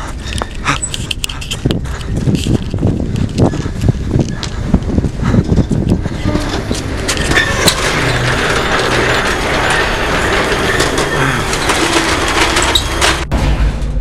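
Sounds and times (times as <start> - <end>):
metal roller shutter rattling: 0.9 - 14.0.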